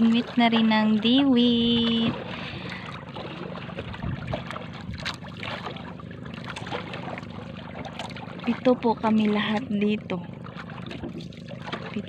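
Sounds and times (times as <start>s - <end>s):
water splashing against boat float: 0.0s - 12.0s
water wash: 0.0s - 12.0s
wind: 0.0s - 12.0s.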